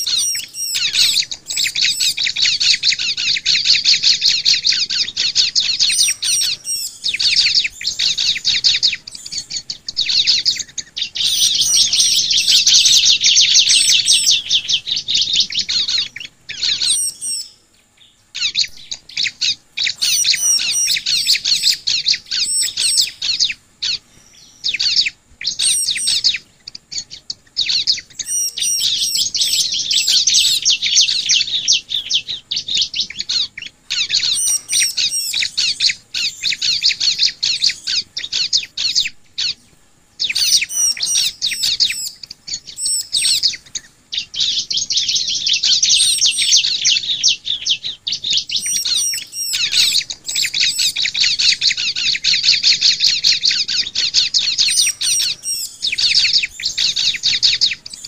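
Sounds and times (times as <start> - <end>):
bird singing chattering phrases: 0.0 - 58.0.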